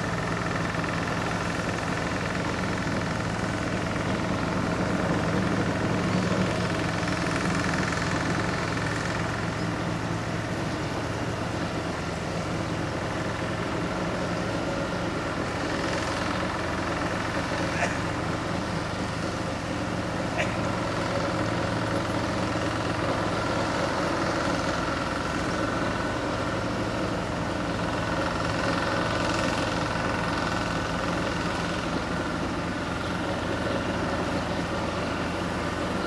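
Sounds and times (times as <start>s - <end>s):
engine idling drone: 0.0s - 36.0s.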